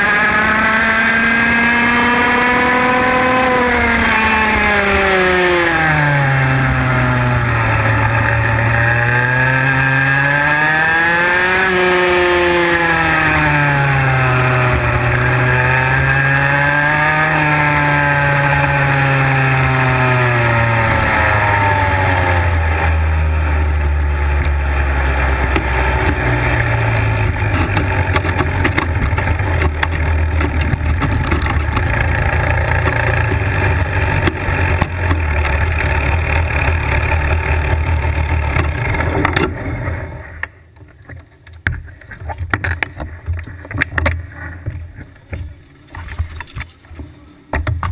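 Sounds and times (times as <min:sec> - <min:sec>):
kart engine revving: 0:00.0 - 0:40.5.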